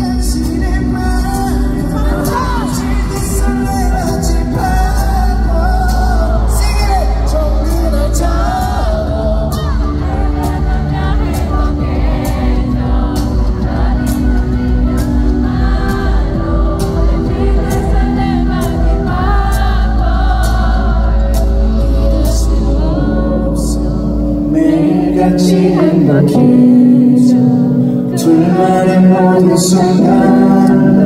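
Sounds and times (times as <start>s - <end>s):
male singer amplified voice: 0.0s - 31.0s
pop song over loudspeakers: 0.0s - 31.0s.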